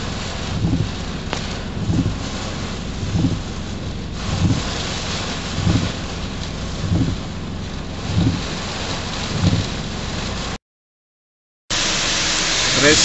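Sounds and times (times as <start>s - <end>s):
heavy rain hissing: 0.0s - 10.6s, 11.7s - 13.0s
wind: 0.0s - 10.6s, 11.7s - 13.0s.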